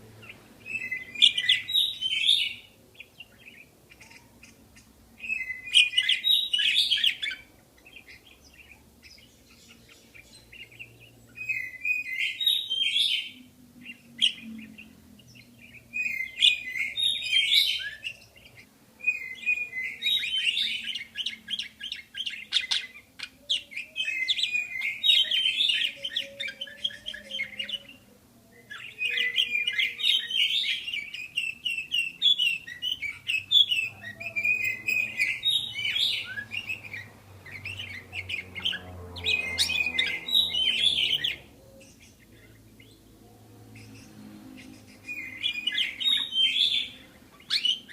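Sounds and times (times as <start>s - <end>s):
budgerigars chattering and warbling: 0.0s - 43.1s, 43.7s - 47.9s.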